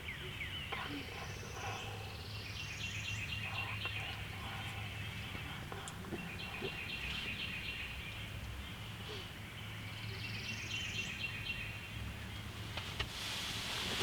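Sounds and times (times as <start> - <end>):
small birds chirping: 0.0 - 12.9
low background rumble: 0.0 - 14.0.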